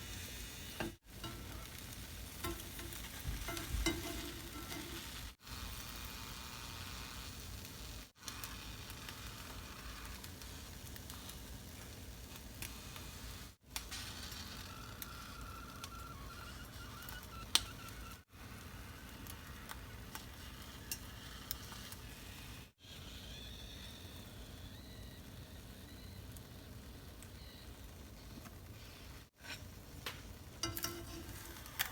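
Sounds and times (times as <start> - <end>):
toast sizzling in a pan: 0.0 - 31.9.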